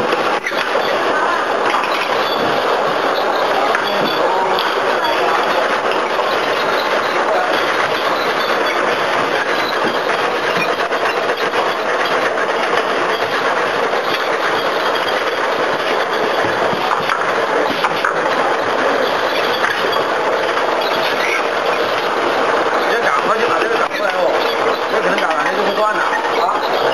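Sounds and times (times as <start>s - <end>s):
machine clattering: 0.0s - 26.9s.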